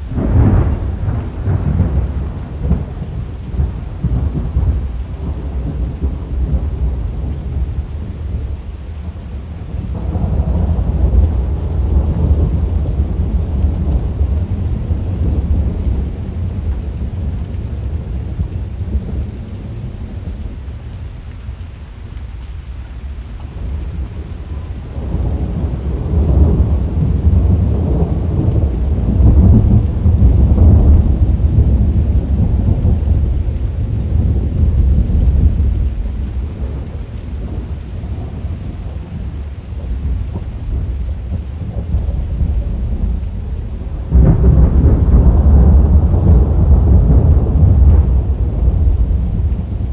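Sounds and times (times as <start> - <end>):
rolling thunder: 0.0 - 21.0, 23.5 - 49.9.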